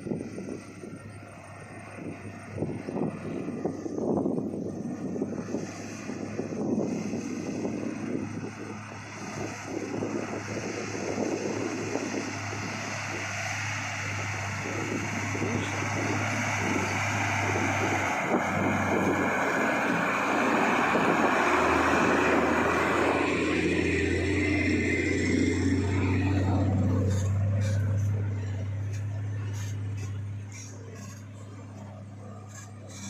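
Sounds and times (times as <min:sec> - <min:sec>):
truck diesel engine droning: 0:00.0 - 0:33.0.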